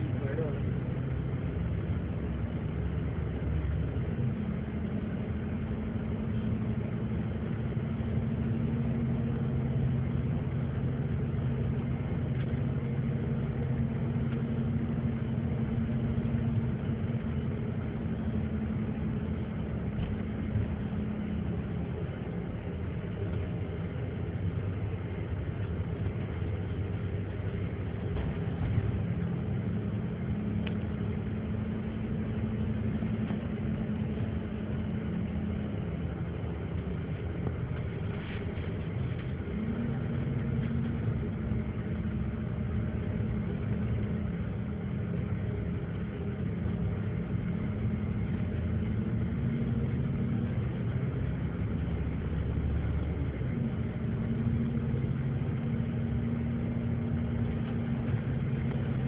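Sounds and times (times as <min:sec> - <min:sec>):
tyre and road noise: 0:00.0 - 0:59.0
vehicle engine running: 0:00.0 - 0:59.0.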